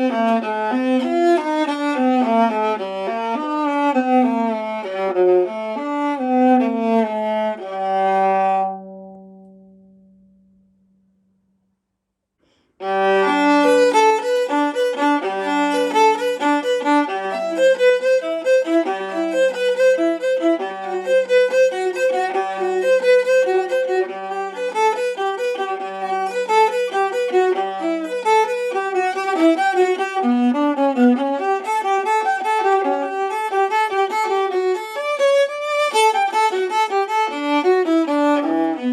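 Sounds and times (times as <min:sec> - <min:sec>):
bowed viola: 0:00.0 - 0:11.0, 0:12.4 - 0:38.9.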